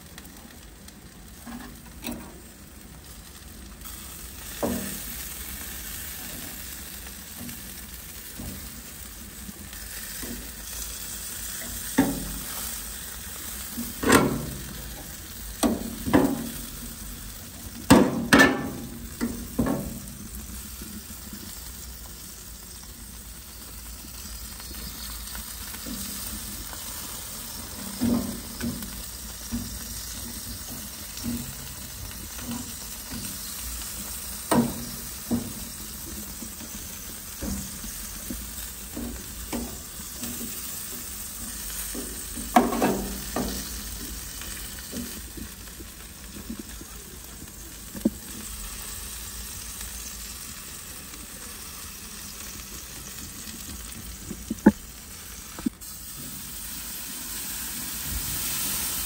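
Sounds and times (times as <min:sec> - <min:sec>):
food sizzling in a pot: 0:00.0 - 0:59.0.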